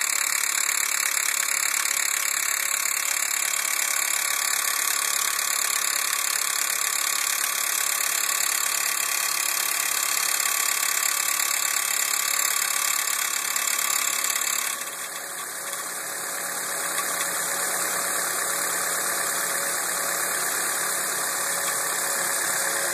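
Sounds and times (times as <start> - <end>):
car engine idling: 0.1 - 22.9.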